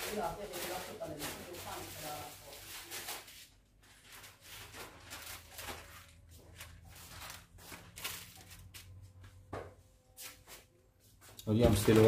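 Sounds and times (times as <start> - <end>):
plastic packaging rustling: 0.0 - 9.4, 11.6 - 12.0.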